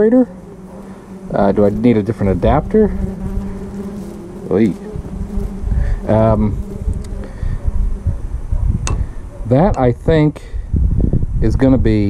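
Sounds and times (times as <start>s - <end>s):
flying insect buzzing: 0.0s - 9.8s.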